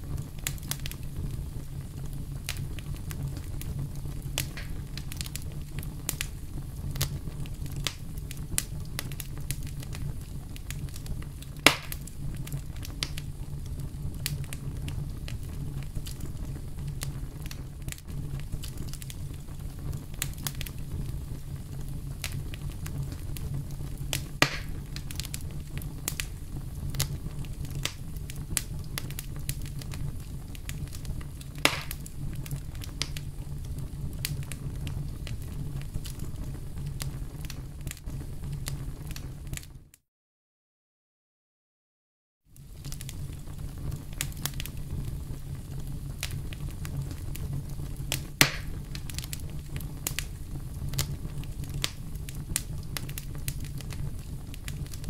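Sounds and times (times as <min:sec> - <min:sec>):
wood campfire crackling: 0:00.0 - 0:39.8, 0:42.5 - 0:55.0
fire popping and snapping: 0:00.0 - 0:40.0, 0:42.5 - 0:55.0.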